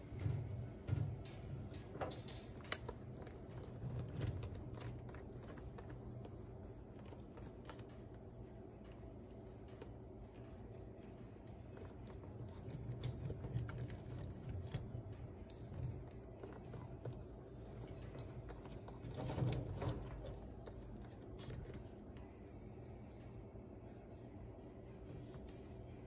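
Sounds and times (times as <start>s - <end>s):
parrot nibbling wood shavings: 2.2s - 23.2s.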